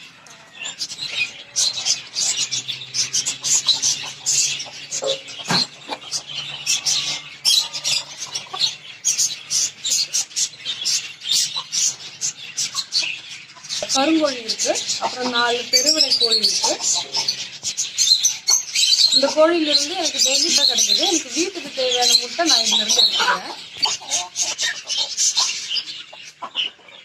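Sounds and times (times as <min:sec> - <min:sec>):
caged birds chirping: 0:00.0 - 0:27.0.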